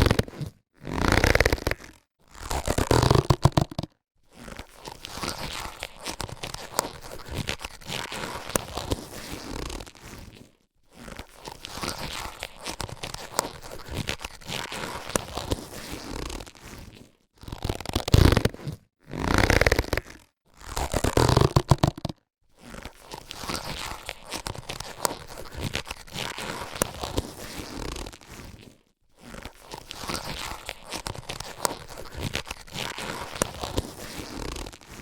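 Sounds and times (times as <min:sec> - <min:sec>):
latex gloves crinkling and snapping: 0:00.0 - 0:35.0.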